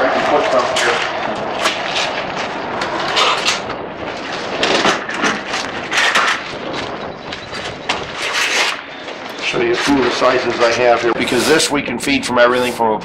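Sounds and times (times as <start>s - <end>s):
footsteps: 0.0s - 11.7s
steady rushing noise: 0.0s - 13.0s.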